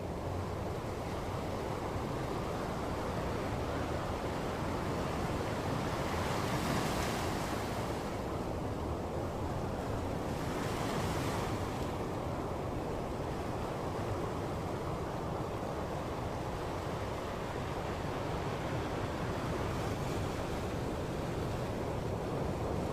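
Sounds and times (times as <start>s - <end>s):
ocean waves on shore: 0.0s - 22.9s.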